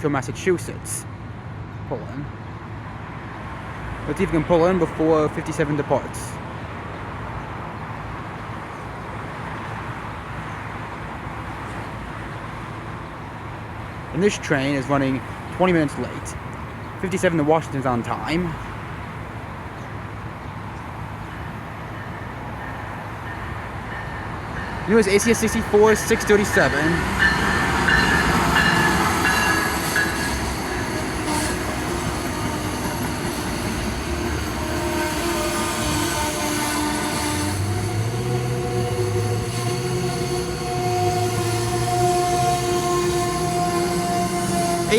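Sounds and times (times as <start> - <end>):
trains rumbling and humming: 0.0 - 44.9.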